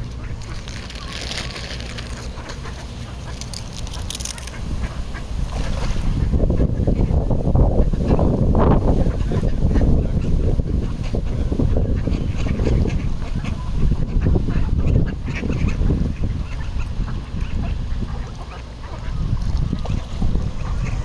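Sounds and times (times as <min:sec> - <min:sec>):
ducks calling: 0:00.0 - 0:21.0
steady low rumble: 0:00.0 - 0:21.0.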